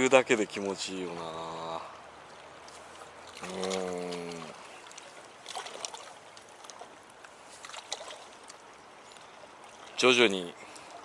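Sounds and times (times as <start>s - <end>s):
small waves lapping on rocks: 0.0s - 11.0s
soft water splashes: 0.0s - 11.0s.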